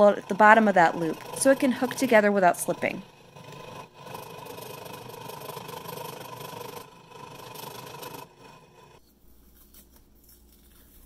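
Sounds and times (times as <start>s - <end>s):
scroll saw cutting wood: 0.0s - 9.0s.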